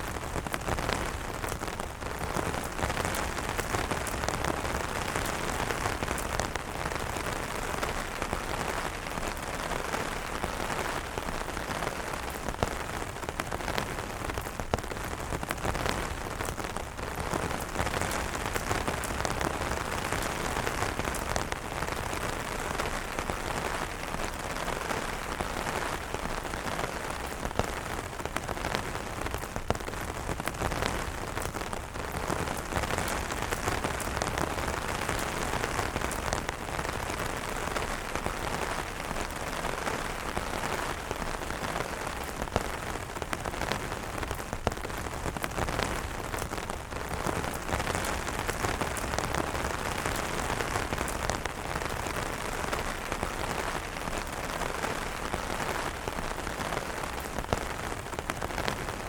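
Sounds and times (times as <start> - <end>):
rain falling on umbrellas: 0.0 - 59.0.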